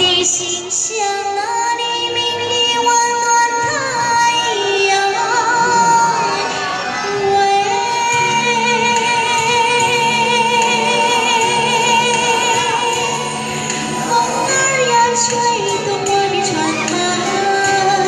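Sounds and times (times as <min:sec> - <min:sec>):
backing track music: 0:00.0 - 0:18.0
woman singing into microphone: 0:00.0 - 0:18.0.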